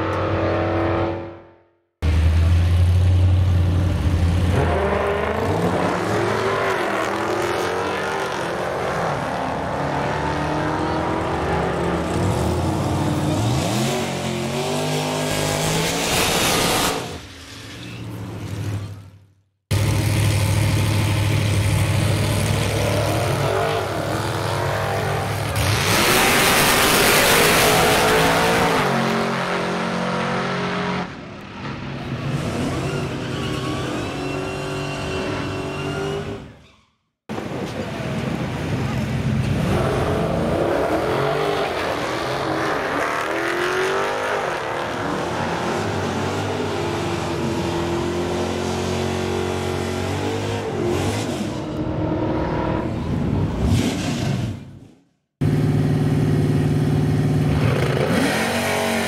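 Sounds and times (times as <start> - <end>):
drag car engines revving: 2.0 - 36.6, 37.3 - 54.8, 55.4 - 59.0.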